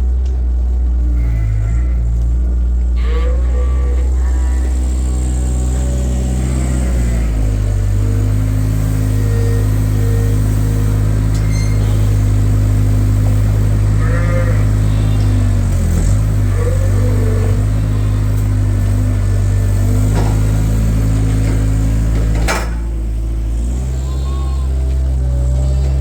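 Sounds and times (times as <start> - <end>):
low machine drone: 0.0 - 26.0
sheep bleating: 0.6 - 21.2, 23.6 - 26.0.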